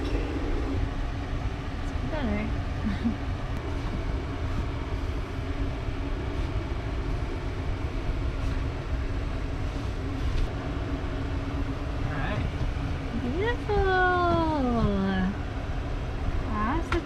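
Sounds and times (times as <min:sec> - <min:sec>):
constant hum: 0:00.0 - 0:17.0
low rumble: 0:00.0 - 0:17.0.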